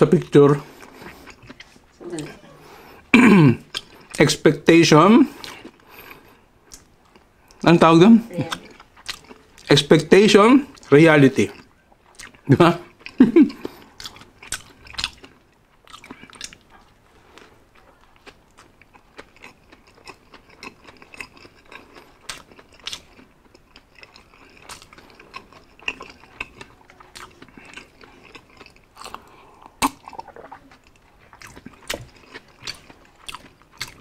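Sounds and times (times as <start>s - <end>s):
person chewing food: 0.0s - 4.4s, 5.2s - 7.6s, 8.3s - 9.9s, 10.6s - 34.0s.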